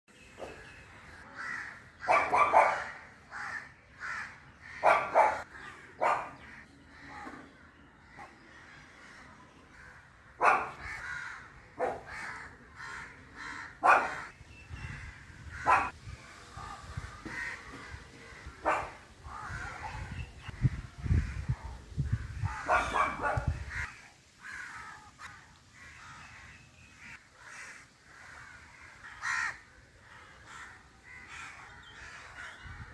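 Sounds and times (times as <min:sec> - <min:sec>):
faint background animal calls: 0:00.1 - 0:32.9.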